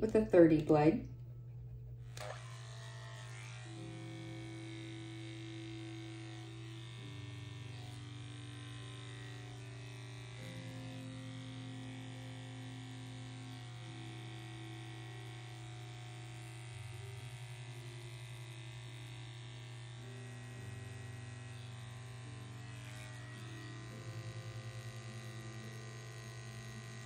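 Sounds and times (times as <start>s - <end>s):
pet clipper humming: 1.9s - 27.0s.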